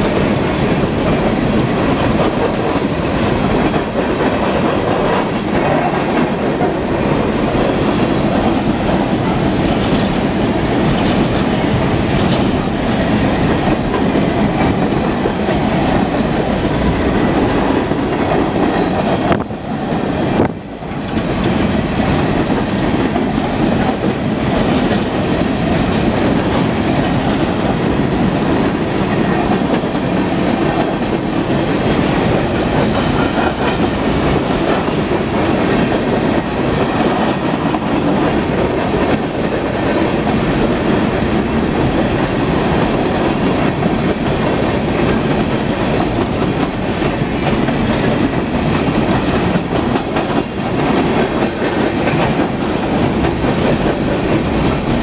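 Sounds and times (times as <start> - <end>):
freight cars rumbling and rattling: 0.0 - 55.0
wheels clacking over rail: 0.0 - 55.0.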